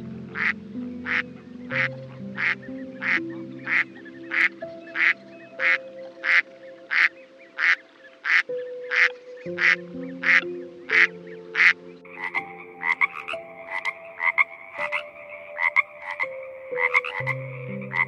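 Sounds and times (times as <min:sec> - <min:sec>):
soft piano music: 0:00.0 - 0:18.0
duck quacking: 0:00.4 - 0:10.4, 0:11.0 - 0:16.2.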